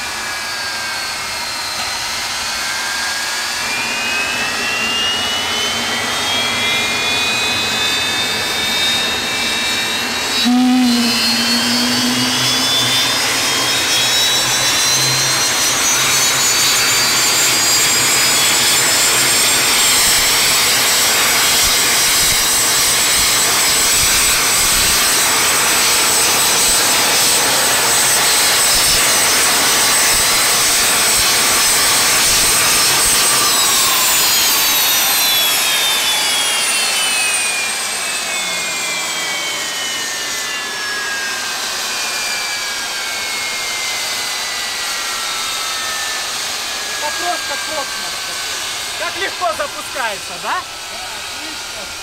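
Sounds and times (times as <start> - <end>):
turbine engine rushing and whining: 0.0 - 52.0.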